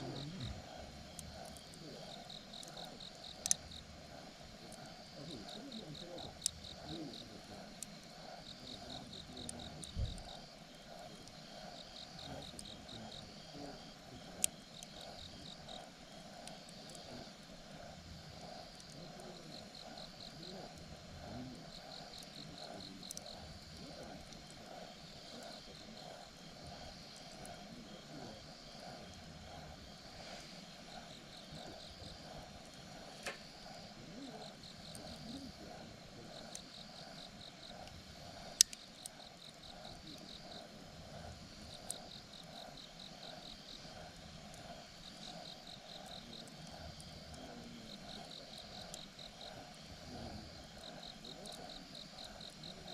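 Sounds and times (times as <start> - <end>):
campfire crackling and popping: 0.0 - 52.9
insects chirping in trills: 0.0 - 52.9.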